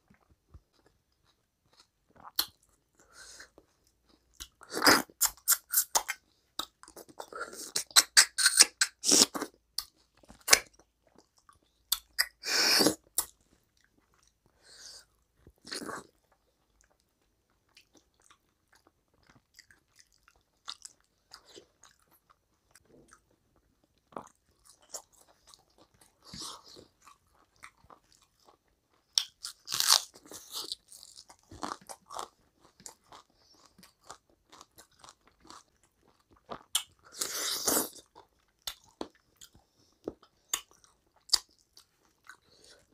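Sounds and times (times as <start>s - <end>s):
wet chewing and mouth noises: 0.0s - 42.9s.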